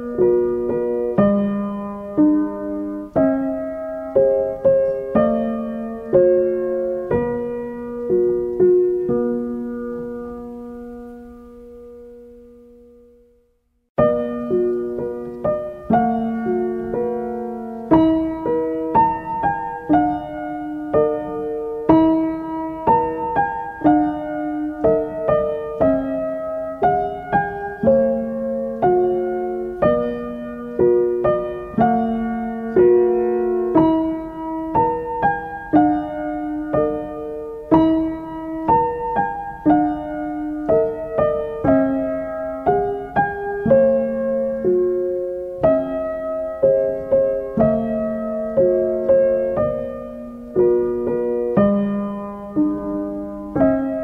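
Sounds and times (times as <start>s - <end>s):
solo piano melody: 0.0s - 54.0s.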